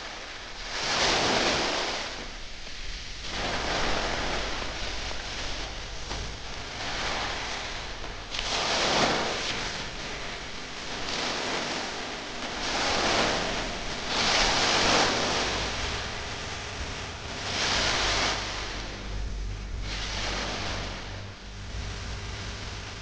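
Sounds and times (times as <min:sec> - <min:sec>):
ocean surf breaking: 0:00.8 - 0:02.5, 0:03.2 - 0:19.2, 0:19.8 - 0:22.8
low rumble: 0:02.1 - 0:23.0.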